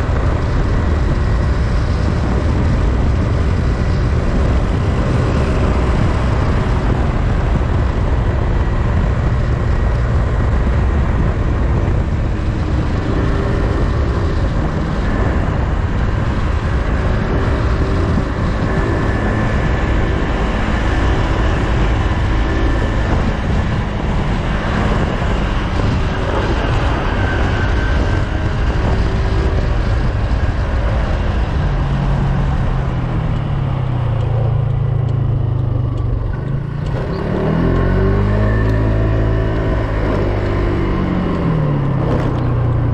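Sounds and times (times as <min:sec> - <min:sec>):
wind rush on microphone: 0:00.0 - 0:42.9.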